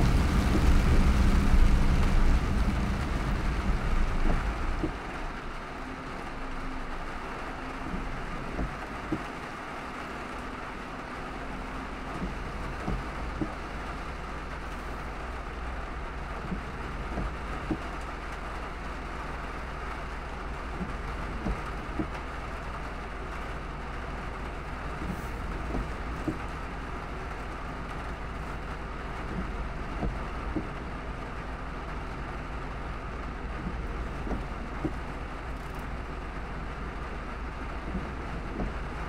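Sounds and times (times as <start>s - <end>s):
low car rumble: 0.0s - 39.0s
rain hiss: 0.0s - 39.0s
wet road tyre noise: 0.0s - 39.0s.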